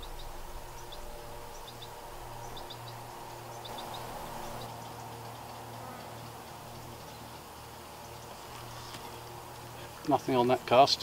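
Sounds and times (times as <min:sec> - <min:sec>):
small bird chirping: 0:00.0 - 0:09.3
low outdoor hum: 0:00.0 - 0:11.0.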